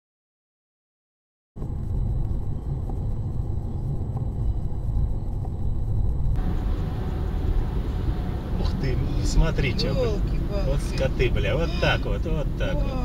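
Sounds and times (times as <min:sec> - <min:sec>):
car driving rumble: 0:01.6 - 0:13.0.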